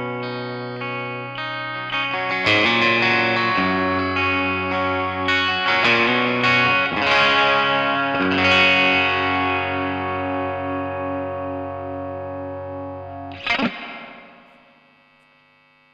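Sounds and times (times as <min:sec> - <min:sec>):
electric guitar chords ringing: 0:00.0 - 0:15.8
faint amp hum: 0:02.0 - 0:15.9.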